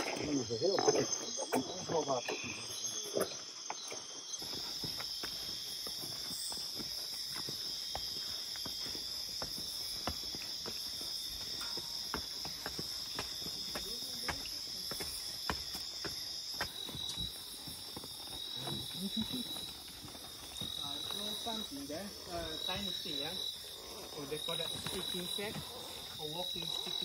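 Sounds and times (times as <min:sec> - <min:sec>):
insects shrilling at night: 0:00.0 - 0:27.0.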